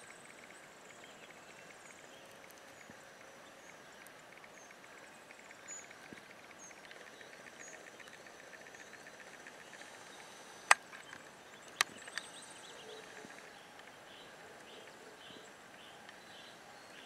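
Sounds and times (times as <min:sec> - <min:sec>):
bird chirping: 0:00.4 - 0:17.0.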